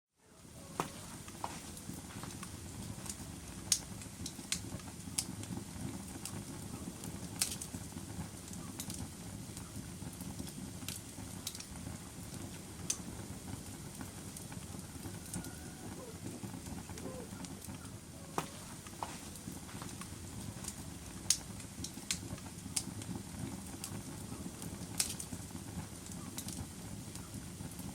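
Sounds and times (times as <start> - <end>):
log fire crackling: 0.2 - 27.9.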